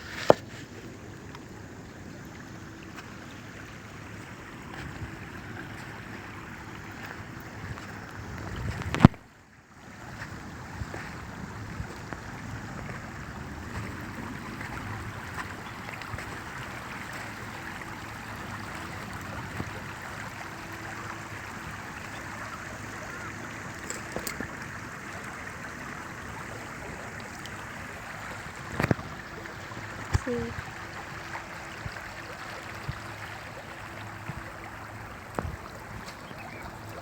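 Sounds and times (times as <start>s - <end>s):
seawater lapping against shore: 0.0s - 37.0s.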